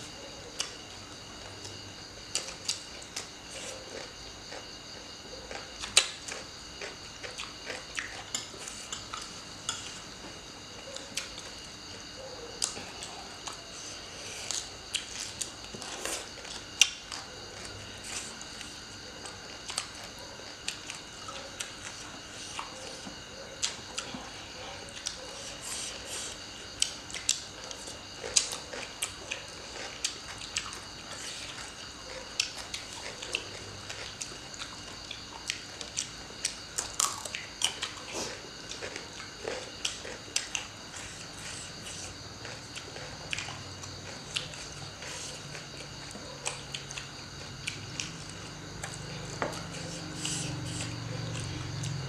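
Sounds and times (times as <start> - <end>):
people crunching vegetables: 5.4 - 9.8, 12.6 - 52.0.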